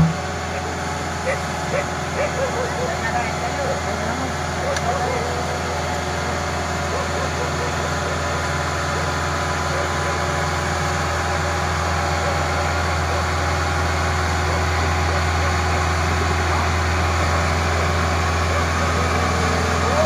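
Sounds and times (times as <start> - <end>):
diesel engine humming: 0.0 - 20.0.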